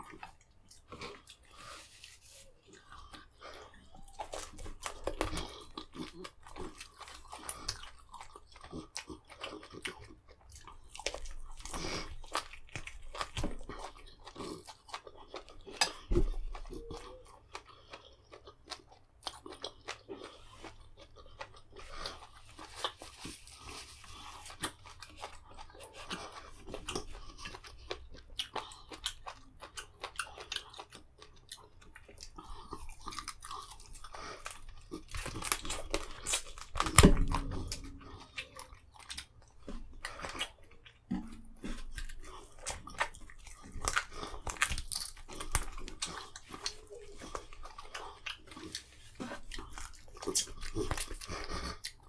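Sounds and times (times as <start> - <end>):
man chewing meat: 0.0 - 52.0.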